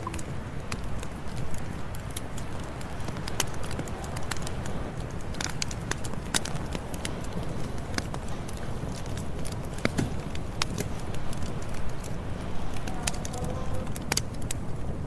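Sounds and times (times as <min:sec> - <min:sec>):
campfire flames rushing: 0:00.0 - 0:15.0
wood crackling and popping: 0:00.0 - 0:15.0.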